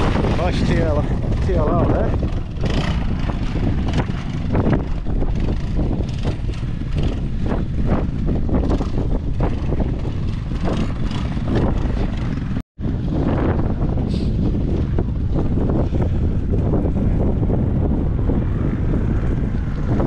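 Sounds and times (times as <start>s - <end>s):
motorcycle engines revving: 0.0s - 20.0s
wind buffeting microphone: 0.0s - 20.0s.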